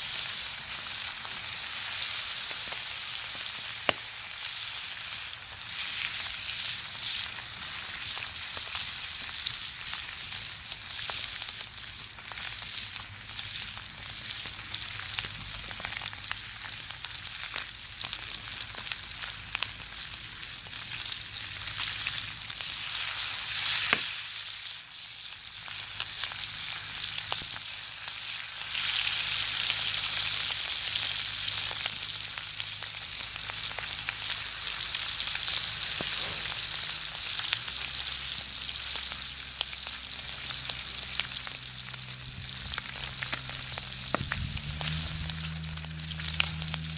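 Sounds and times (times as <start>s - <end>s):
bacon sizzling with pops: 0.0s - 46.9s.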